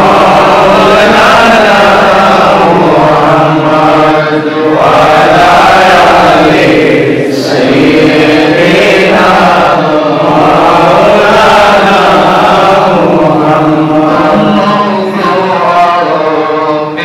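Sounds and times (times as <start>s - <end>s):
man chanting through a microphone: 0.0s - 17.0s.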